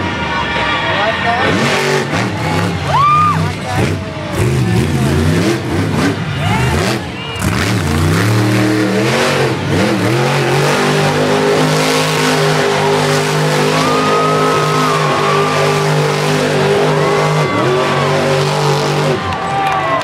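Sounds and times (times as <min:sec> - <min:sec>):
truck engine revving hard: 0:00.0 - 0:19.6.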